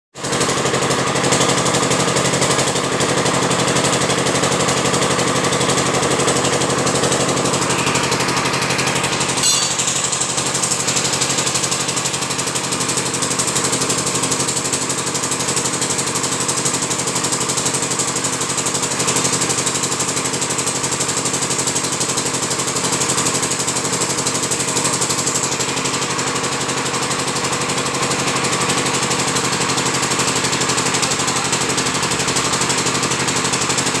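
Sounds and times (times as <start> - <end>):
air compressor engine chugging: 0.2 - 34.0.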